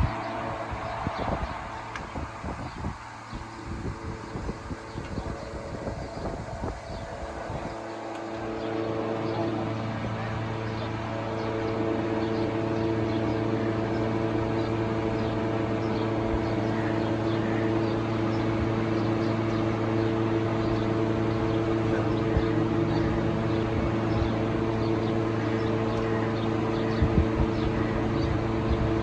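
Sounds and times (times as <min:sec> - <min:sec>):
car engine running steadily: 0:00.0 - 0:29.0.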